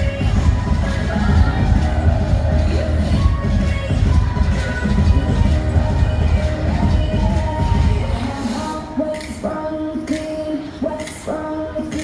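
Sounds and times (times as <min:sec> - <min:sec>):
loud bass-heavy music over speakers: 0:00.0 - 0:12.0.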